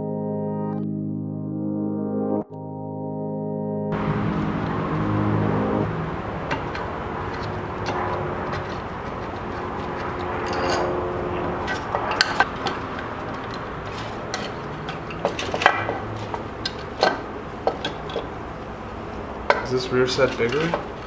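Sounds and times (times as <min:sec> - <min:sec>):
metal tools clinking: 0:04.0 - 0:21.0.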